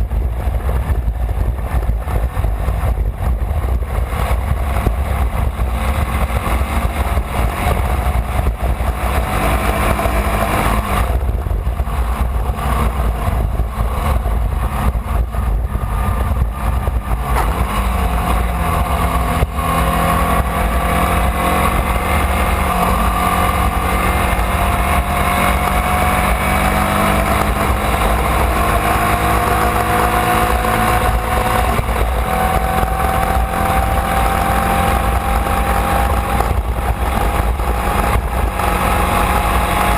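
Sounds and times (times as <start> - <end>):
race car engine accelerating: 0.0 - 39.9
wind rumble on microphone: 0.0 - 39.9.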